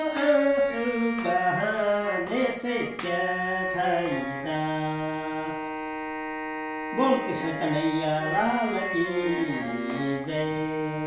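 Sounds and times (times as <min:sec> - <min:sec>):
man singing devotional song: 0:00.0 - 0:06.0, 0:06.8 - 0:11.0.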